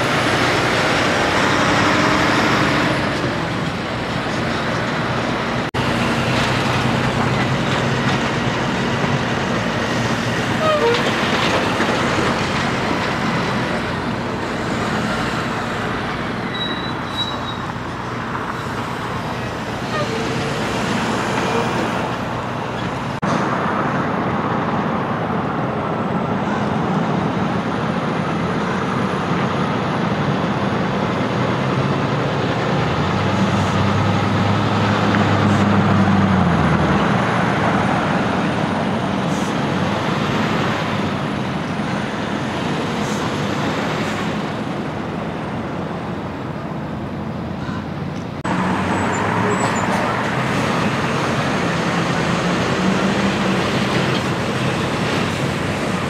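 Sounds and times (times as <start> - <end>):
diesel engine: 0.0 - 56.0
trucks driving past: 0.0 - 56.0.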